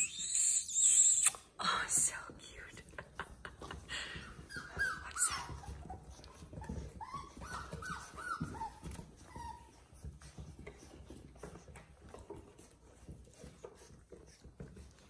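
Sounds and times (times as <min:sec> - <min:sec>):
puppies yipping and whimpering: 0:00.0 - 0:01.3, 0:03.9 - 0:15.0.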